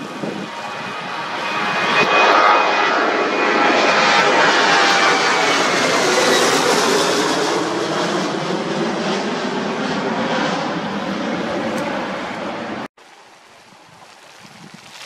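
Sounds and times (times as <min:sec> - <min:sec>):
jet engine roar passing overhead: 0:00.0 - 0:12.9.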